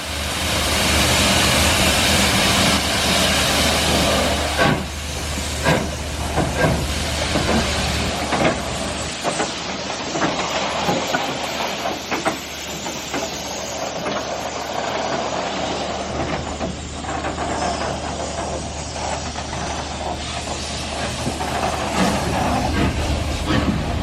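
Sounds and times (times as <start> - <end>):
steam locomotive hissing: 0.0 - 24.0
train clicks and knocks: 0.0 - 24.0.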